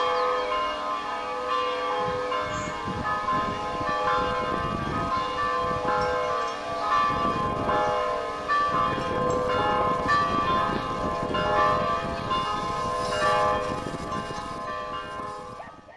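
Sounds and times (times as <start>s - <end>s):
church bells ringing: 0.0s - 15.9s.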